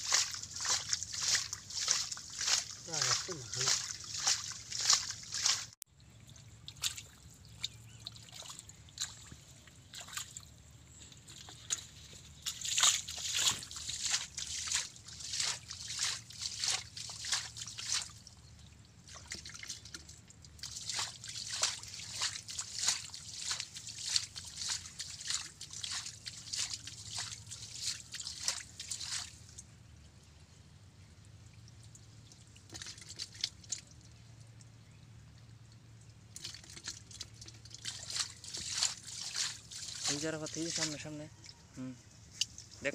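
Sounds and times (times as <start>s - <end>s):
hands squelching in wet mud: 0.0s - 29.6s, 31.6s - 34.6s, 36.2s - 42.9s.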